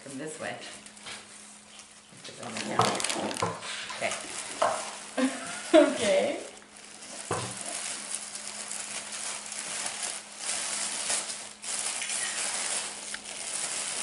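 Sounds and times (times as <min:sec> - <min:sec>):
tissue paper rustling: 0:00.8 - 0:14.0.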